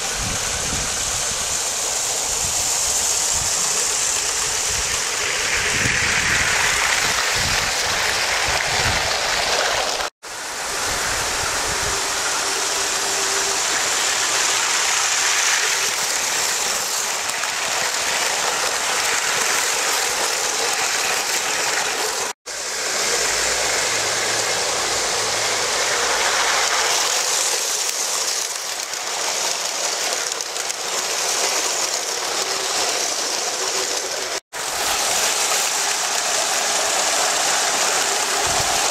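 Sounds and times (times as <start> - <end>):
toy train wheels clattering: 0.0 - 10.1, 11.1 - 38.9.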